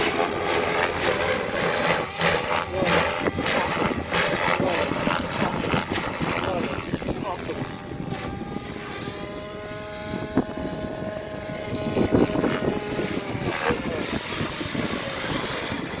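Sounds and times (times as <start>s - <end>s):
helicopter motor and rotor whine: 0.0s - 16.0s
wind noise on microphone: 0.0s - 16.0s.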